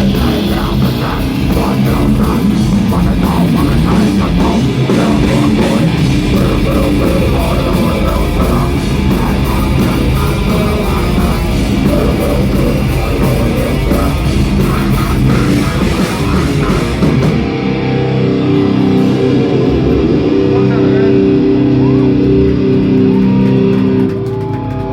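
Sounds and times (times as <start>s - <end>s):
distorted electric guitars: 0.0s - 24.9s
drum kit: 0.0s - 24.9s.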